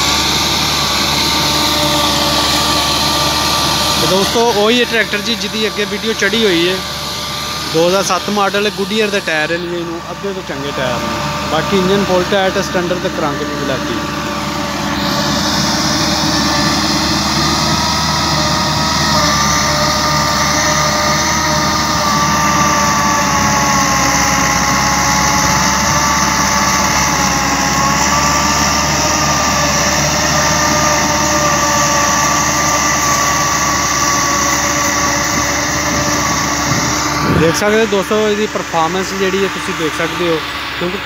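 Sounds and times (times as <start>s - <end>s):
steady whine: 0.0s - 41.0s
tractor diesel engine running: 0.0s - 41.0s.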